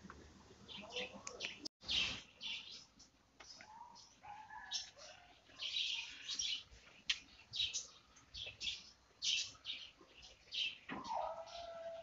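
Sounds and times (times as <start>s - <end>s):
small birds chirping: 0.6s - 12.0s.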